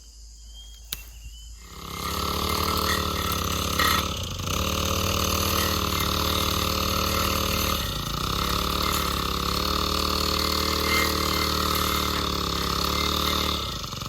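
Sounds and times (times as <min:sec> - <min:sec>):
small engine running: 0:01.6 - 0:14.0.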